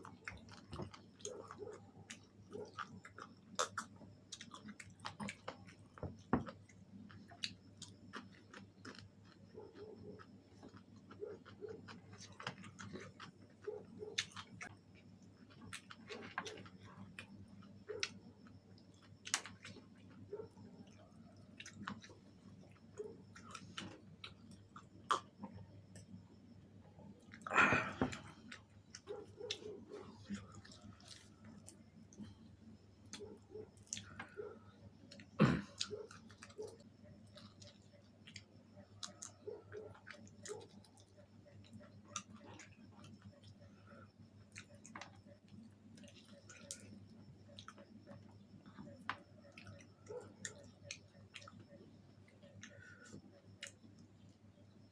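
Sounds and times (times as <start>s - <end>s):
chewing fried chicken: 0.0s - 54.9s.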